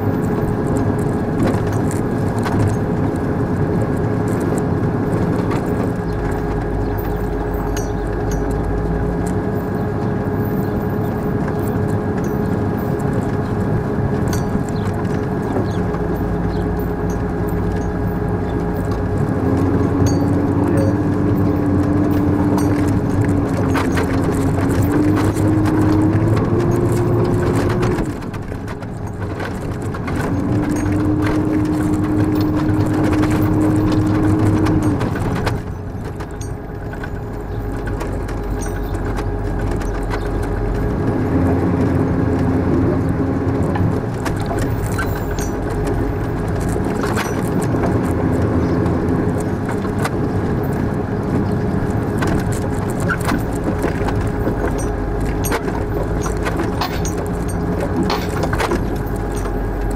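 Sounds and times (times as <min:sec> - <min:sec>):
vehicle engine whining: 0:00.0 - 0:59.9.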